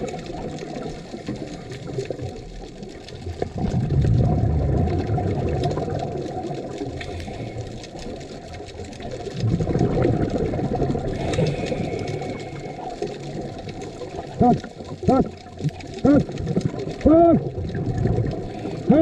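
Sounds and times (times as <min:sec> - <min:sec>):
underwater breath bubbles: 0:03.3 - 0:19.0.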